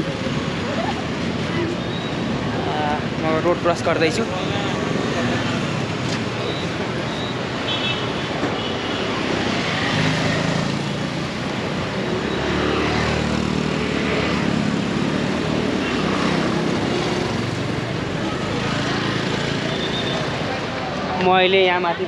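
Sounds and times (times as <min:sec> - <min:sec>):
car engines passing: 0:00.0 - 0:22.0
motorcycle engines passing: 0:00.0 - 0:22.0
road noise: 0:00.0 - 0:22.0.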